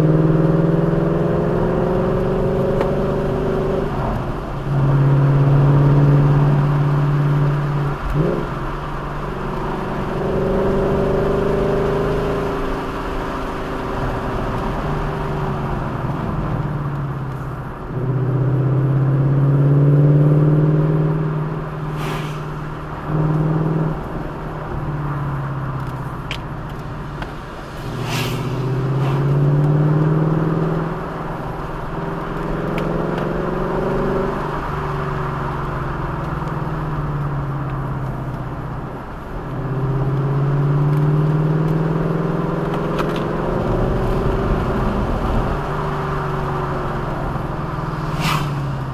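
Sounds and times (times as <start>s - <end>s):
road noise: 0.0s - 48.9s
vehicle engine accelerating: 0.0s - 48.9s.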